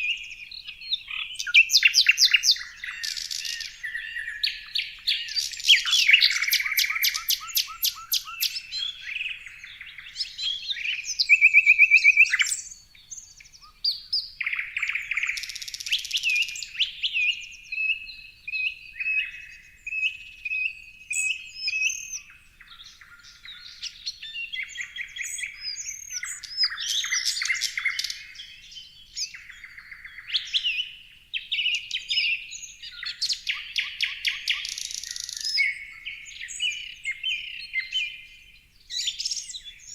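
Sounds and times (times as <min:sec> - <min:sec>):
loud rapid bird trill: 0:00.0 - 0:18.0, 0:18.8 - 0:38.3
songbirds chirping and singing: 0:00.0 - 0:39.9.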